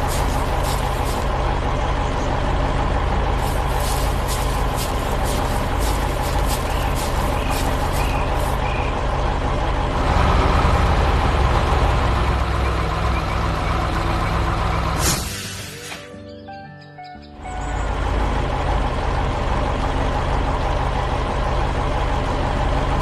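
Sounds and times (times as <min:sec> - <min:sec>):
heavy diesel engine running: 0:00.0 - 0:16.1, 0:17.3 - 0:23.0.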